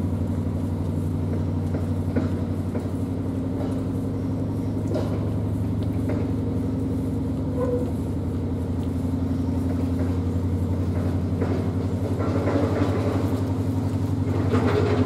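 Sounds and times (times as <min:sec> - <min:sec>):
diesel boat engine running: 0:00.0 - 0:15.0.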